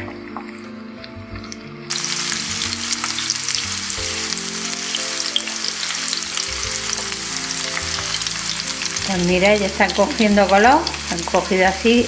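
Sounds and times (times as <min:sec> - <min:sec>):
vegetables sizzling in oil: 0:01.9 - 0:12.0.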